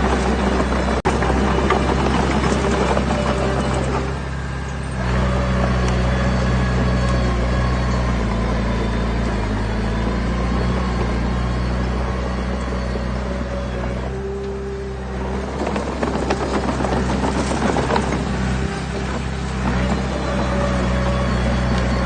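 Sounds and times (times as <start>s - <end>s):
heavy diesel engine drone: 0.0s - 22.0s.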